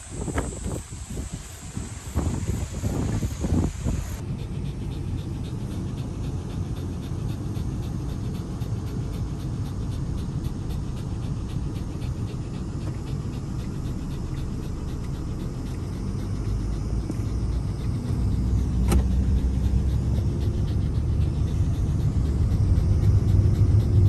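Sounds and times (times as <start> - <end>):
dog panting: 0.0 - 24.0
steady low rumble: 0.0 - 24.0.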